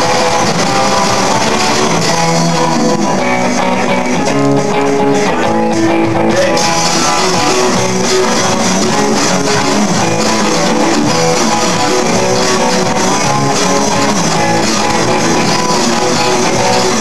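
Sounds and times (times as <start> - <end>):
bass guitar: 0.0 - 17.0
electric guitar: 0.0 - 17.0.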